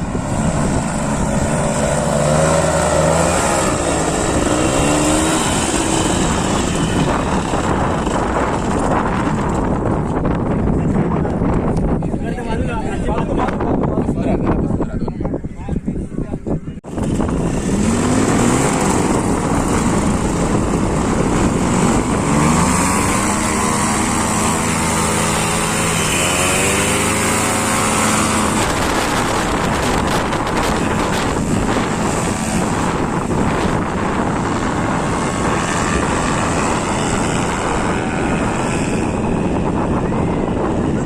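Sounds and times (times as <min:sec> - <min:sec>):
paramotor engine and propeller: 0:00.0 - 0:41.0.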